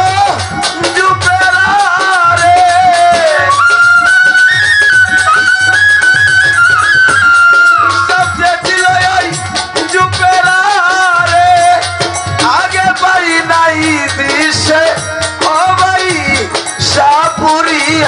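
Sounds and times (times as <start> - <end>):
drum beat: 0.0 - 18.0
folk band playing: 0.0 - 18.0
violin: 0.0 - 18.0.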